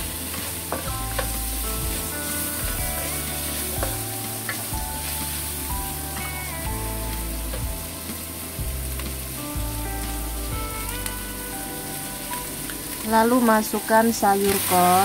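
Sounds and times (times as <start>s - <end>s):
background music: 0.0s - 15.0s
oil sizzling in a wok: 0.0s - 15.0s.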